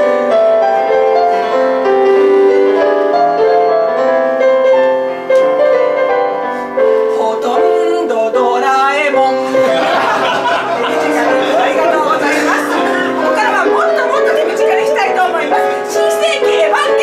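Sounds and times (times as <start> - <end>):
digital piano melody over chords: 0.0 - 17.0.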